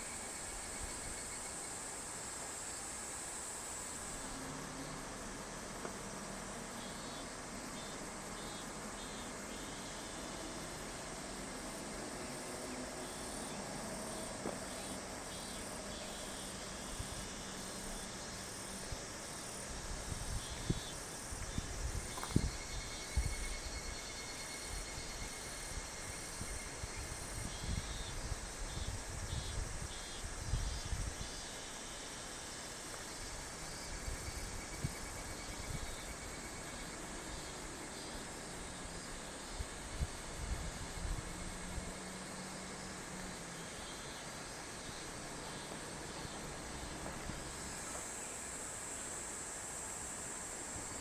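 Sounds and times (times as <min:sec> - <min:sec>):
constant hiss: 0:00.0 - 0:51.0
insects chirping: 0:00.0 - 0:51.0.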